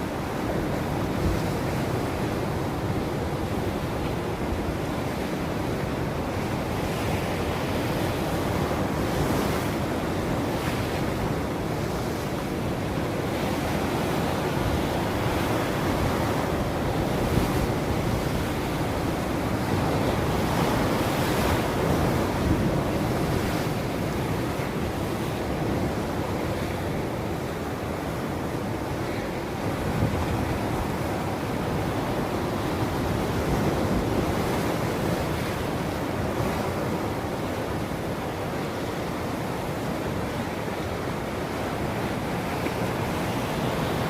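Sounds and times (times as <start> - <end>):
ocean waves breaking: 0.0 - 44.0.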